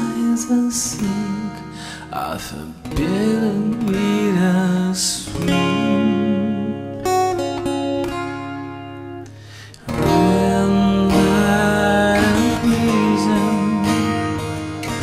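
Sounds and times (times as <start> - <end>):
man singing: 0.0 - 7.4, 9.8 - 15.0
strummed acoustic guitar: 0.0 - 15.0.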